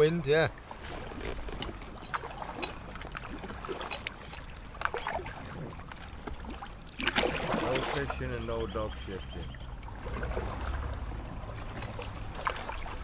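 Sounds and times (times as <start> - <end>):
paddle splashes and drips: 0.5 - 13.0.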